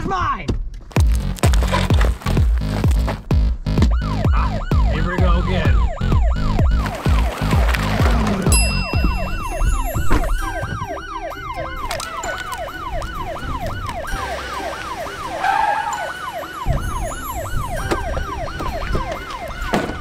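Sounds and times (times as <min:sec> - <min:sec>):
yelp siren: 0:03.8 - 0:20.0.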